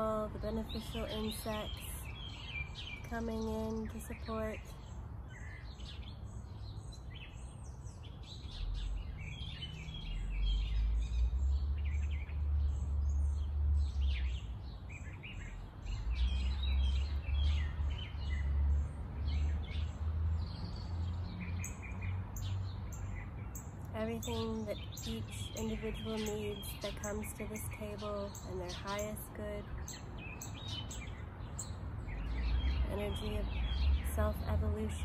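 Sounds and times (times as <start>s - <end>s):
songbirds chirping and calling: 0.0s - 35.0s.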